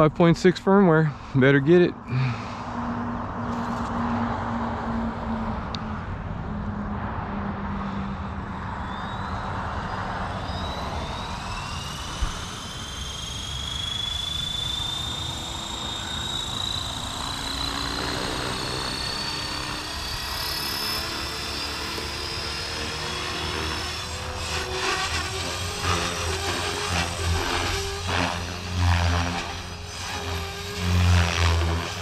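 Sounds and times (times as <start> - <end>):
helicopter rotor chop: 0.0 - 32.0
electric motor whine rising: 2.1 - 32.0.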